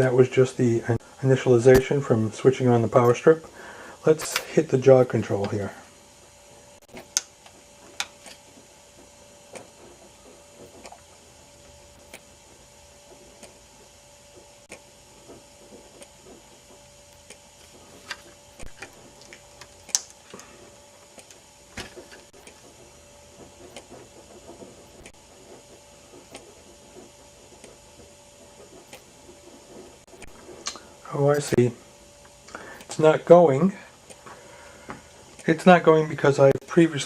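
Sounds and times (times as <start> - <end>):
faint hum with high whine: 0.0 - 37.0.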